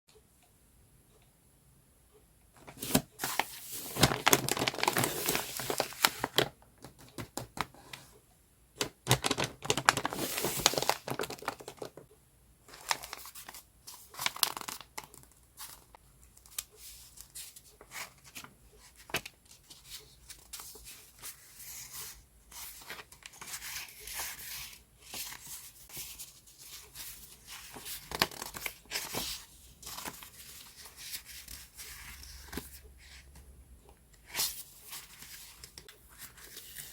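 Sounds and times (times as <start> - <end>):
paper rustling and crinkling: 2.6 - 8.1, 8.8 - 12.0, 12.7 - 33.2, 34.3 - 36.9.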